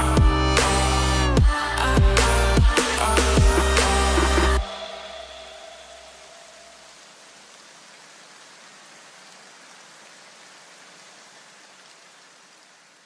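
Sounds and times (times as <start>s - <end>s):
faint steady hiss: 0.9s - 13.0s.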